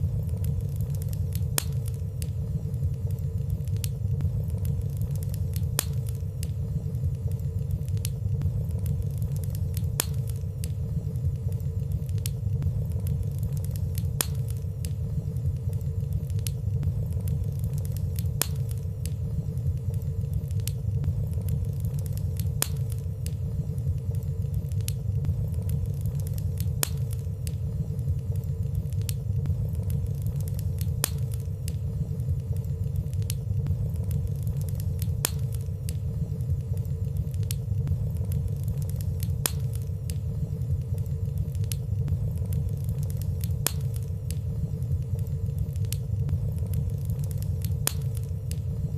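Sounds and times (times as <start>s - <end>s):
fire crackling: 0.0s - 48.9s
fire rumbling in fireplace: 0.0s - 48.9s.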